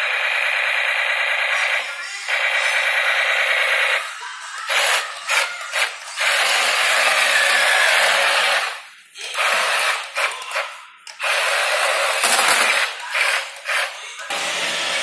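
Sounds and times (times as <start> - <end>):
toy tank motors and gears: 0.0 - 4.0, 4.6 - 15.0.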